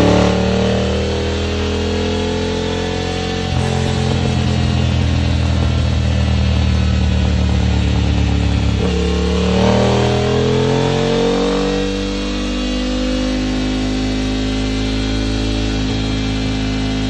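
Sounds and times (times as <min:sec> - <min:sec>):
motorcycle engine revving on dynamometer: 0:00.0 - 0:17.0.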